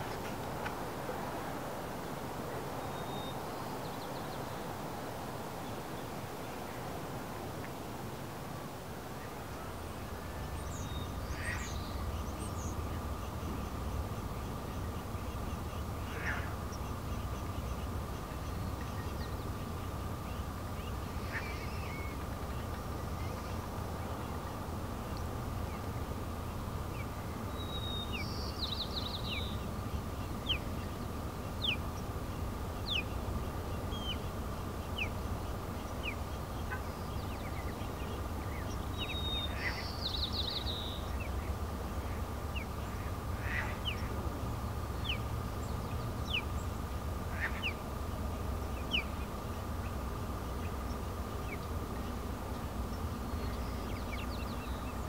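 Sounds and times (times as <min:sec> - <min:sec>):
birds chirping: 0:00.0 - 0:07.0, 0:09.1 - 0:55.0
faint steady tone: 0:00.0 - 0:55.0.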